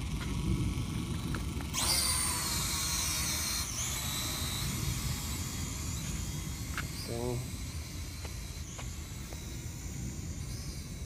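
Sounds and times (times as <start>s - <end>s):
drone propellers whining: 0.0s - 11.0s
steady low rumble: 0.0s - 11.0s.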